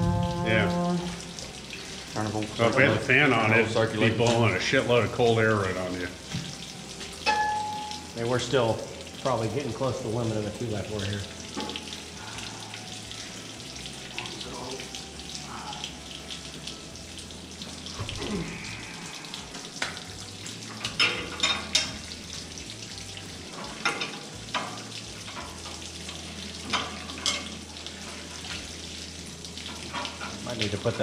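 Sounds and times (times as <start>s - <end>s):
water splashing on concrete floor: 0.0s - 31.0s.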